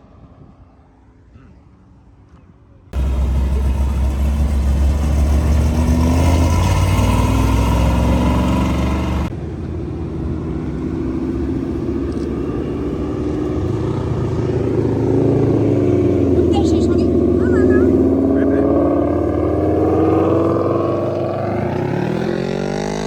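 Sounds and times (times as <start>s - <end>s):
engine running: 3.0s - 23.0s
loud car engines and exhausts: 3.0s - 23.0s.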